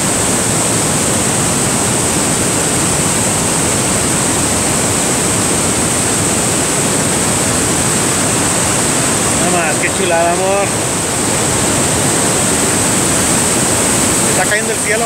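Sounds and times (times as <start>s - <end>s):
fast river: 0.0s - 15.0s
waterfall rushing: 0.0s - 15.0s.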